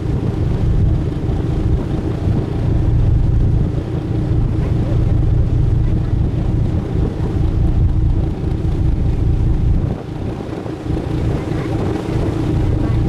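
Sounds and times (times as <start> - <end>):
boat engine rumbling: 0.0 - 13.0
wind buffeting microphone: 0.0 - 13.0.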